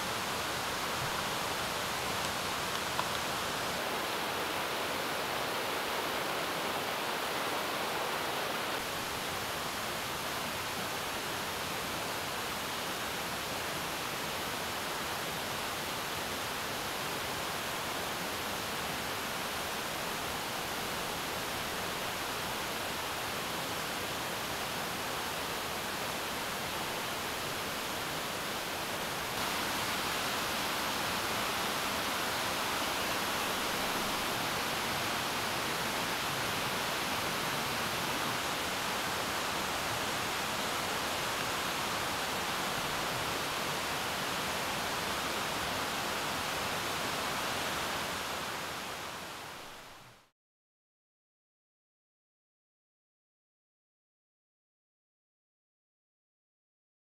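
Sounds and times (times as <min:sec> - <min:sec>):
stream rushing: 0:00.0 - 0:50.3.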